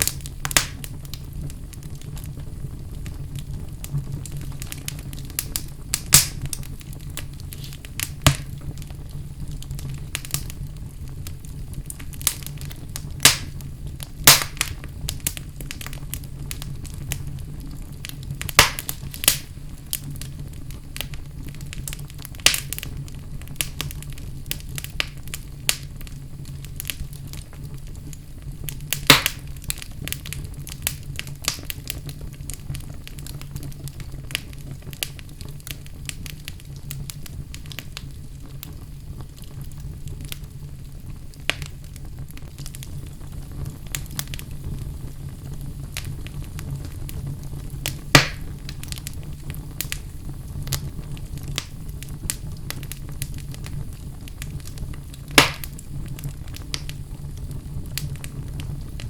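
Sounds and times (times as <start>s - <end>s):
loud fire pops: 0.0s - 59.0s
wood fire crackling: 0.0s - 59.0s.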